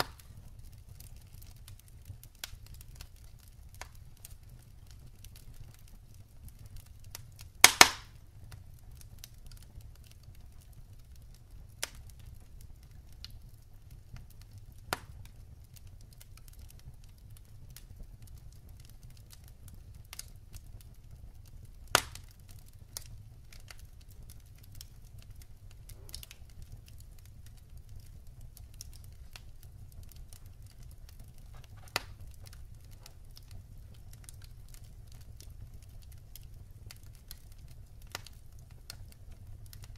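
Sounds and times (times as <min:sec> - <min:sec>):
low rumble of fire: 0:00.0 - 0:39.9
wood fire crackling and popping: 0:00.0 - 0:39.9.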